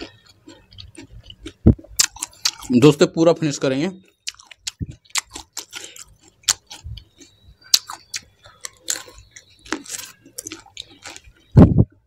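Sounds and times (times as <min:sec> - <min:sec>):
crisp crunching while chewing: 0:00.0 - 0:11.6.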